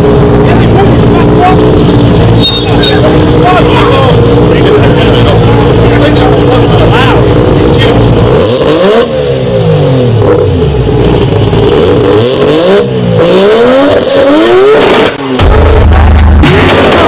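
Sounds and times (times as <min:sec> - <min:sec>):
deep steady bass: 0:00.0 - 0:17.0
rotary engine revving: 0:00.0 - 0:17.0.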